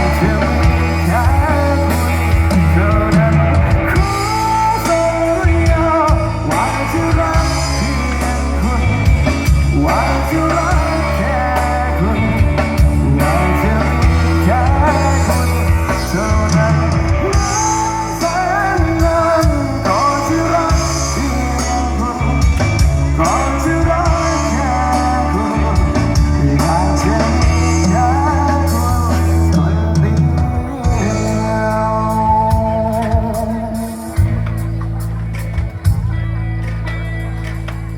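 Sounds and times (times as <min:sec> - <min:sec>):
person singing: 0:00.0 - 0:36.1
live rock band playing: 0:00.0 - 0:37.9.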